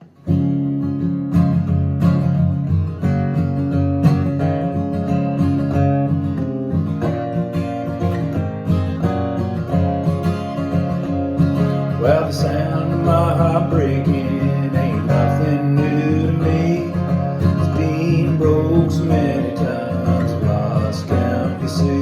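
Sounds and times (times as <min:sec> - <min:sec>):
sliding lead guitar melody: 0:00.0 - 0:22.0
strummed acoustic guitar: 0:00.0 - 0:22.0.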